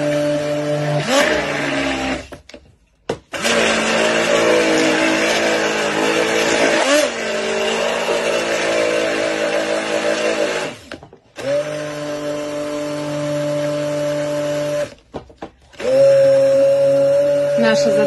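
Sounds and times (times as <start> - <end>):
immersion blender running: 0.0 - 15.0, 15.7 - 18.0.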